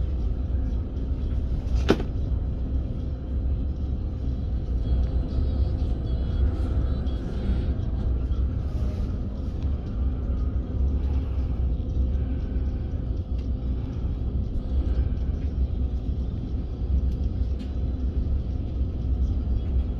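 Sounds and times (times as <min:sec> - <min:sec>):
train rumbling and humming: 0:00.0 - 0:19.9.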